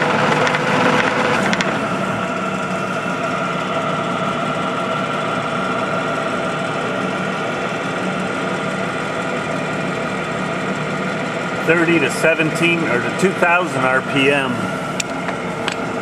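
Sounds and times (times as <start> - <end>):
lathe running: 0.0 - 16.0.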